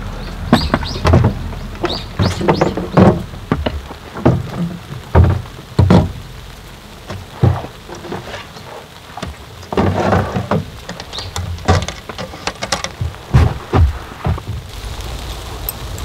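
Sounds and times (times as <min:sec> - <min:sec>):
large raindrops thumping: 0:00.0 - 0:16.0
rain pattering: 0:00.0 - 0:16.0.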